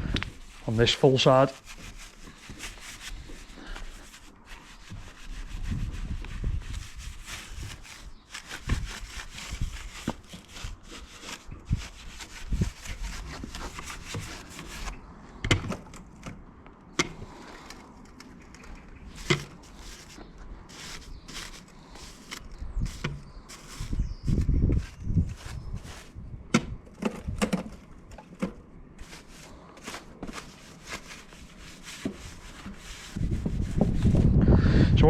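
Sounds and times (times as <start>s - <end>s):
brush scrubbing a bike: 0.1s - 15.0s, 17.1s - 26.3s, 28.9s - 34.4s.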